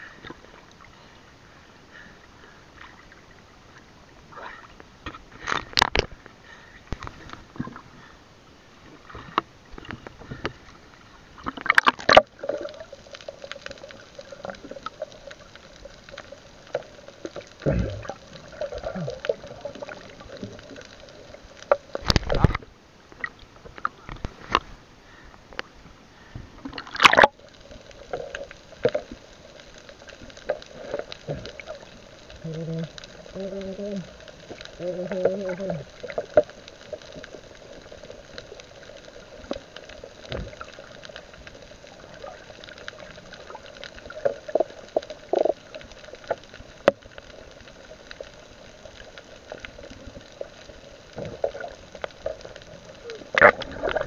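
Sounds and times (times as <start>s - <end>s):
water sloshing and gurgling: 0.0s - 54.0s.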